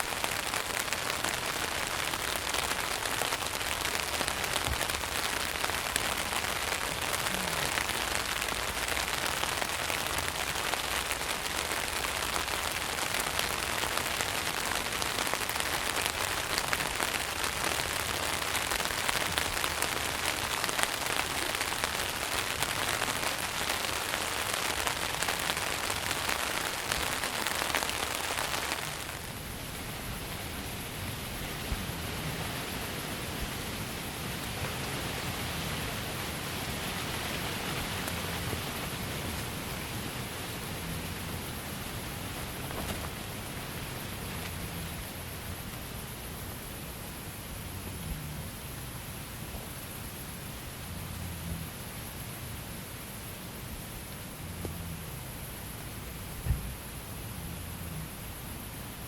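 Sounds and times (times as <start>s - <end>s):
rain pattering on tent: 0.0s - 59.0s
smooth hiss: 0.0s - 59.0s.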